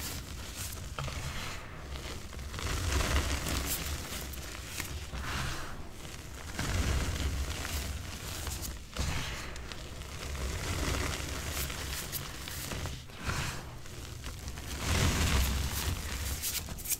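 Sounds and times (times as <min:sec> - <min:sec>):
chalk chunks crunching: 0:00.0 - 0:16.9
chalk powder rustling: 0:00.0 - 0:16.9.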